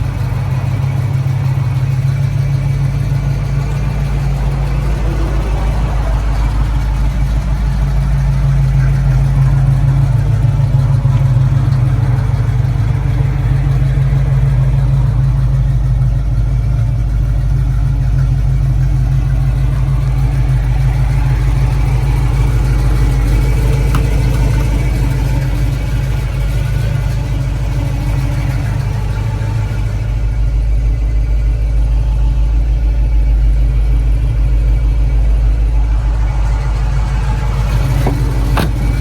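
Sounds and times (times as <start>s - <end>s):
pickup engine idling: 0.0s - 39.0s.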